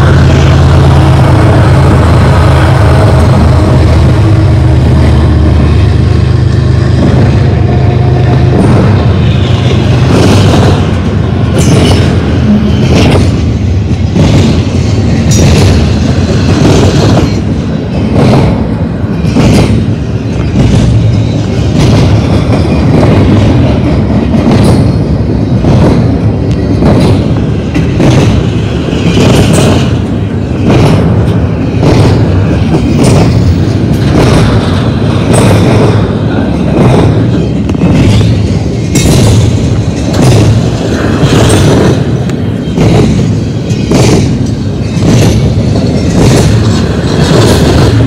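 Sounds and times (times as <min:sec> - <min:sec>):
diesel locomotive drone: 0:00.0 - 0:48.0
steel wheels rumbling on rail: 0:00.0 - 0:48.0.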